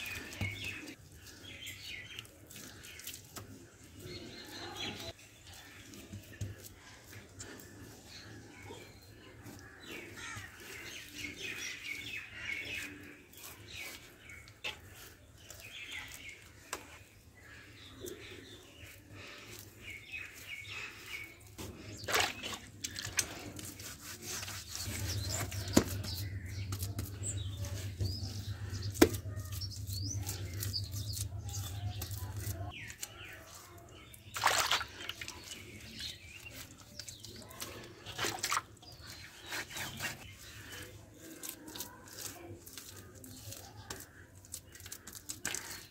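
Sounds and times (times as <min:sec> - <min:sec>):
hand smoothing wet plaster: 0:00.0 - 0:45.9
small birds chirping: 0:00.0 - 0:45.9.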